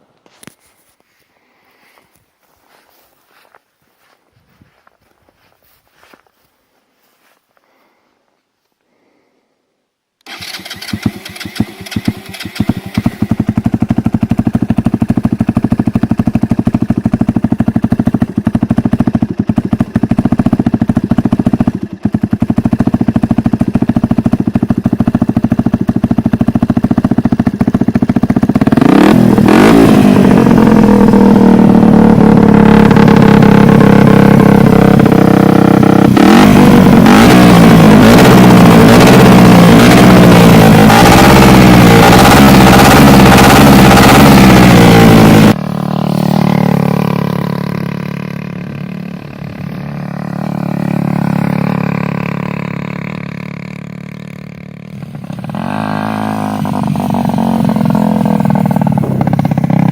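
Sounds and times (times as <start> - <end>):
motorcycle engine starting and idling: 10.2 - 59.9.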